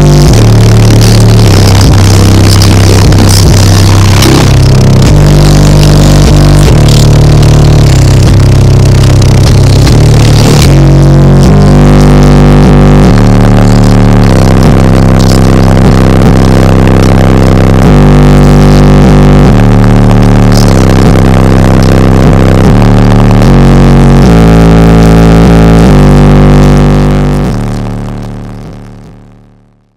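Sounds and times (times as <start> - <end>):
loud bass-heavy music: 0.0 - 29.9.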